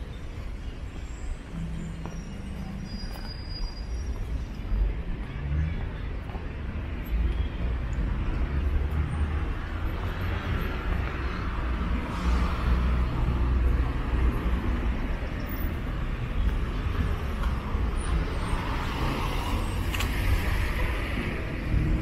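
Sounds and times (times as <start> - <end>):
low traffic rumble: 0.0 - 22.0
cars driving past: 1.5 - 22.0.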